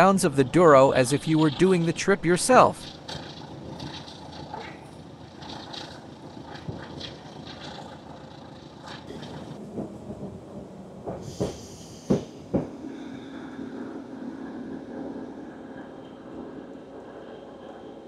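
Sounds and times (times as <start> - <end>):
train wheels rumbling on rails: 2.8 - 18.0.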